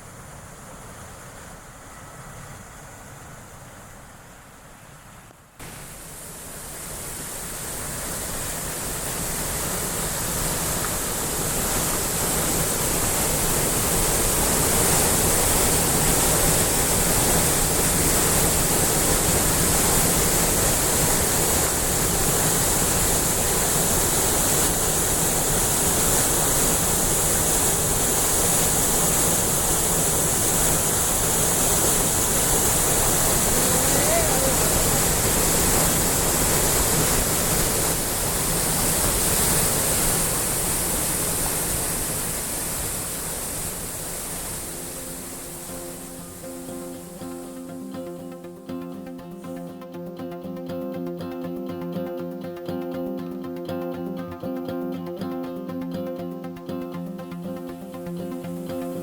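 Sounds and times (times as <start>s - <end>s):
waterfall rushing: 5.6s - 59.0s.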